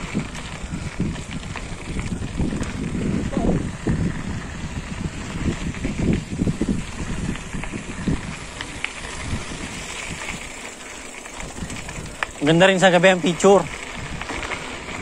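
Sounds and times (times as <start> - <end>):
bike tyre and road noise: 0.0 - 15.0
wind buffeting microphone: 0.0 - 15.0.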